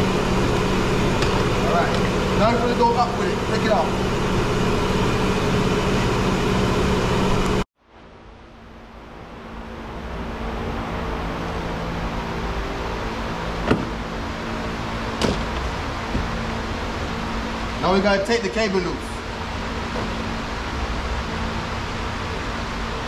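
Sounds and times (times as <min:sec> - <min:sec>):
background machinery hum: 0:00.0 - 0:23.0.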